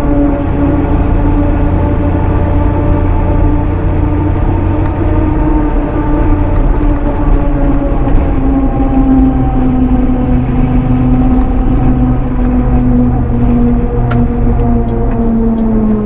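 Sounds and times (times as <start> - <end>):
road rumble: 0.0 - 16.0
truck engine running: 0.0 - 16.0.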